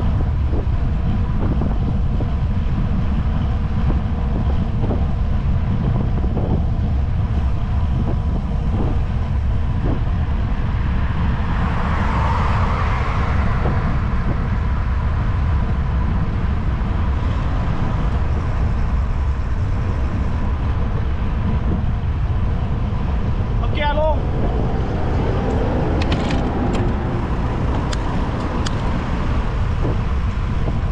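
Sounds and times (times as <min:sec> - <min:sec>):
car passing tyre noise: 0:00.0 - 0:30.9
wind rumble on microphone: 0:00.0 - 0:30.9.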